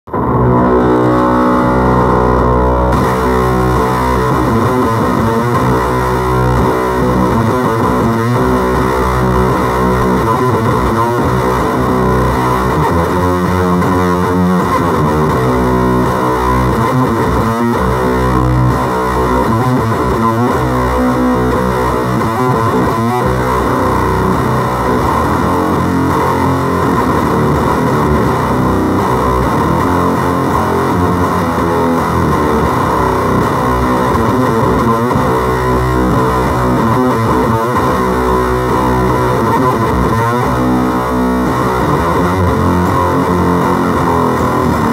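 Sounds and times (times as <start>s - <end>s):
distorted fuzz electric guitar: 0.0s - 44.9s.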